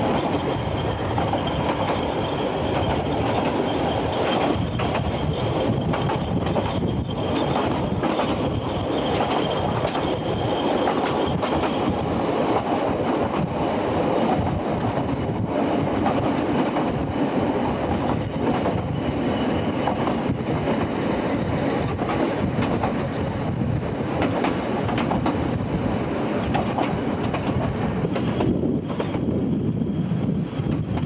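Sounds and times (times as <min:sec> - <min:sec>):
wheels rumbling on rails: 0:00.0 - 0:31.0.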